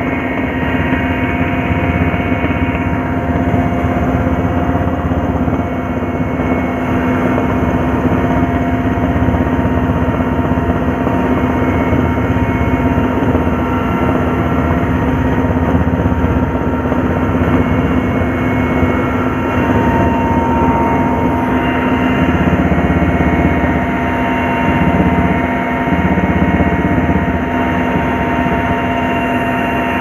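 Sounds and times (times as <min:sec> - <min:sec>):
aircraft motor drone: 0:00.0 - 0:30.0
high whine: 0:00.0 - 0:30.0.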